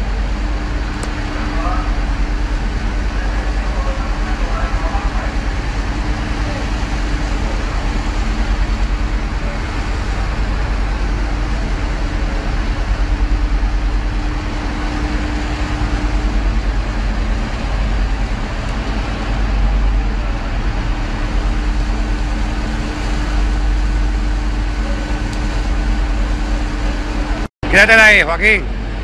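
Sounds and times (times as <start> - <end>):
ferry engines rumbling: 0.0 - 29.0
steady hum: 0.0 - 29.0
water churning: 0.0 - 29.0.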